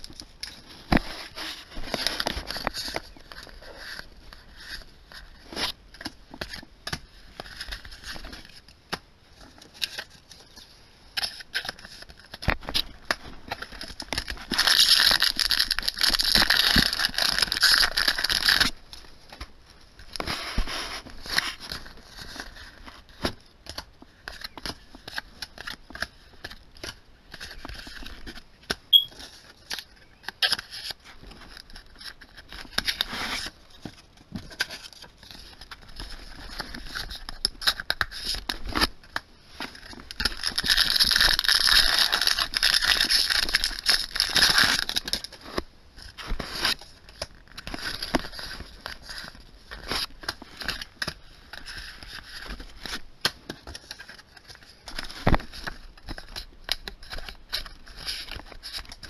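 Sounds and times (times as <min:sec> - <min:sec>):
rustling: 0:00.0 - 0:59.0
foil wrapper crinkling: 0:09.4 - 0:23.2, 0:23.8 - 0:59.0.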